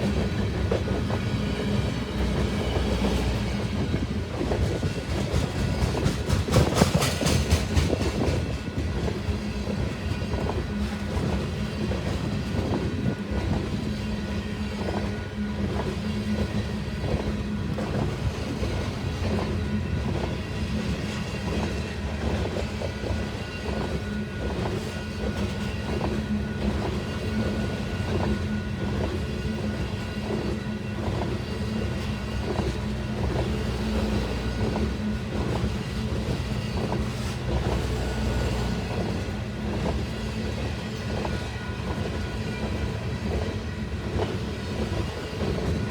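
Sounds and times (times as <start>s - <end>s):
train rumbling past: 0.0s - 45.9s.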